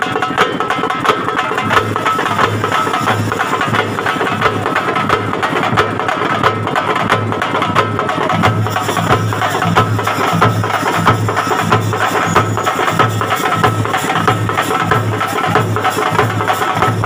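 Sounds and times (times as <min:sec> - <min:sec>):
deep pulsing drum beat: 0:00.0 - 0:17.0
fast drumming: 0:00.0 - 0:17.0.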